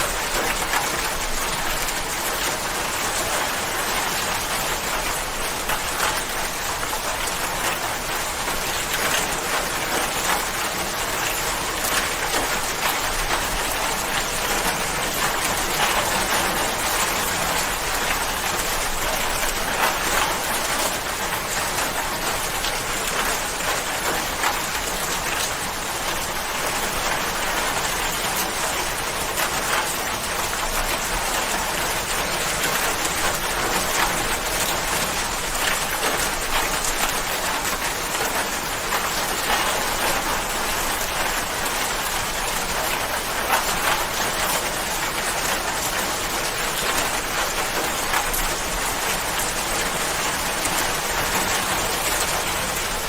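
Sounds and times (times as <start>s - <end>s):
rain drops pattering: 0.0s - 53.0s.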